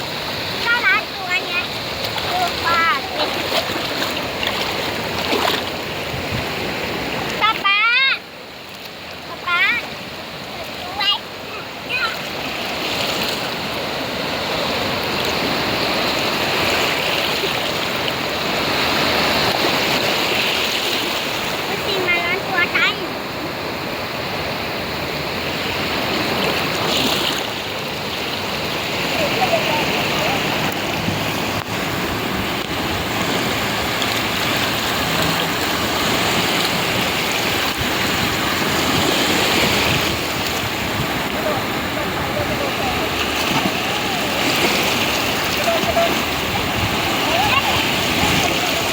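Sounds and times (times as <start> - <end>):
sea surf washing ashore: 0.0 - 48.9.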